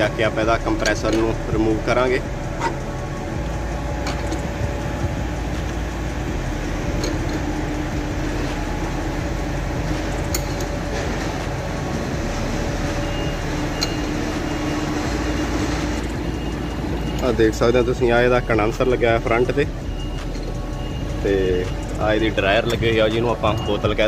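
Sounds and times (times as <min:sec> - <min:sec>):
machine hum with low rumble: 0:00.0 - 0:24.0.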